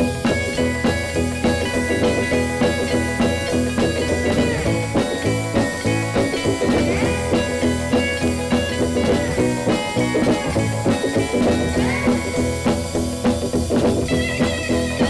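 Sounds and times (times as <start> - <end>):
instrumental rock music: 0.0 - 15.0.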